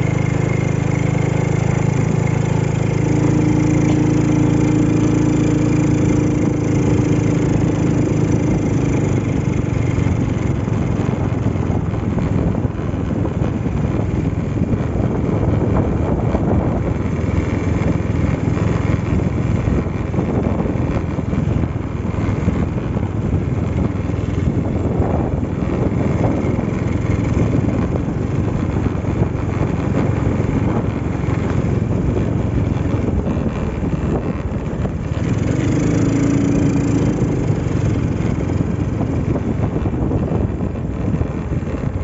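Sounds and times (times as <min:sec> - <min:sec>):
motorcycle engine running: 0:00.0 - 0:42.0
tyres on gravel road: 0:00.0 - 0:42.0
wind rumble on microphone: 0:00.0 - 0:42.0.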